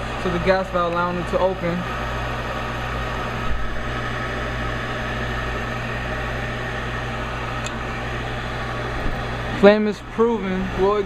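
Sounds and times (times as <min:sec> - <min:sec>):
furnace fan motor humming: 0:00.0 - 0:11.0.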